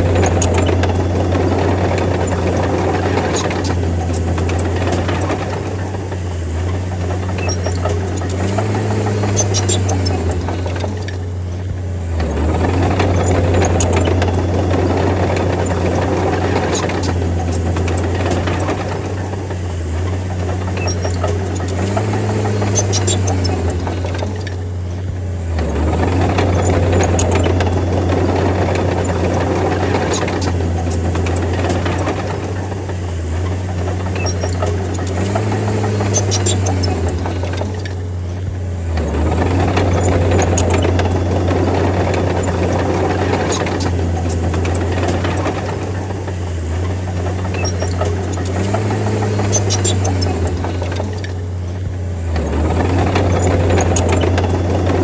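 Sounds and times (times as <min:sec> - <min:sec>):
bulldozer diesel engine under load: 0:00.0 - 0:55.0
metallic clicks and clanks: 0:00.0 - 0:55.0.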